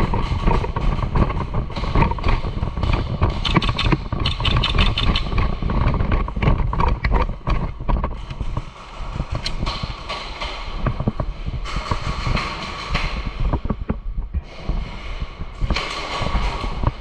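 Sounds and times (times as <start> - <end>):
gear clattering: 0.0 - 13.8.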